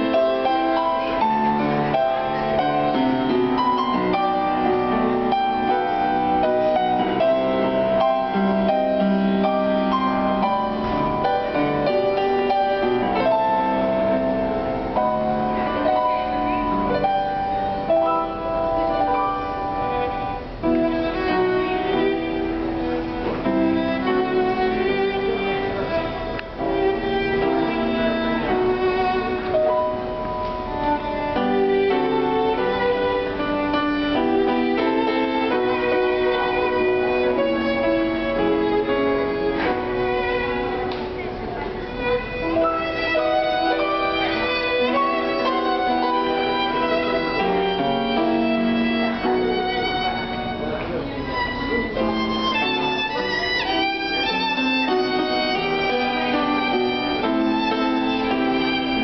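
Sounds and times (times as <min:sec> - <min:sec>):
piano accompaniment: 0:00.0 - 0:59.0
viola bowed notes: 0:00.0 - 0:59.0.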